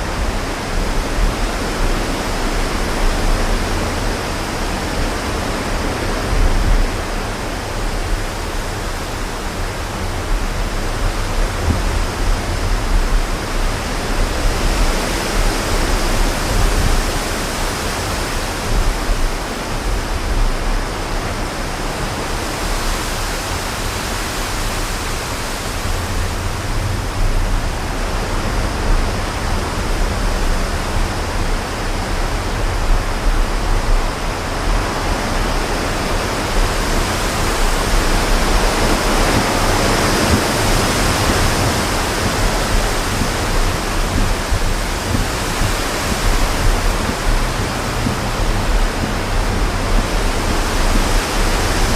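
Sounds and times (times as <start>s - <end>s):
strong wind blowing: 0.0s - 51.9s
wind gusts buffeting microphone: 0.0s - 51.9s.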